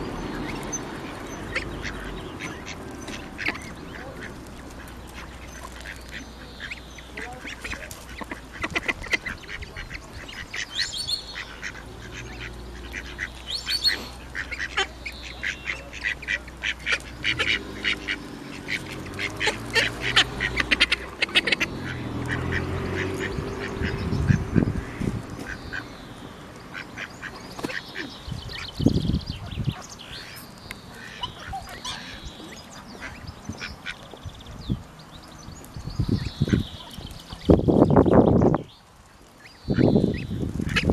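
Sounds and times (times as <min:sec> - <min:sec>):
ducks quacking: 0:00.0 - 0:34.2, 0:36.2 - 0:37.6, 0:39.7 - 0:40.9.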